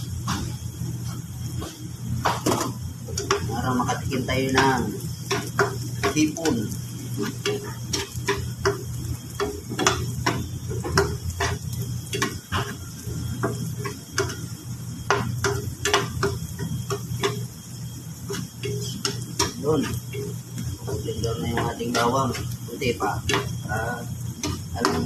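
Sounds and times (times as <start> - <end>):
faint sizzle: 0.0 - 25.0
steady low hum: 0.0 - 25.0.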